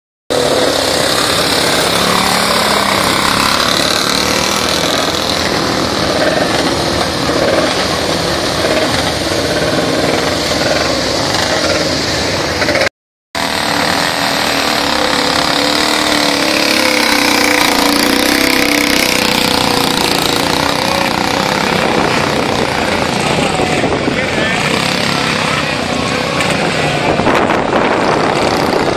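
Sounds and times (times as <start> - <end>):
motorcycle engine running hard: 0.3 - 28.9.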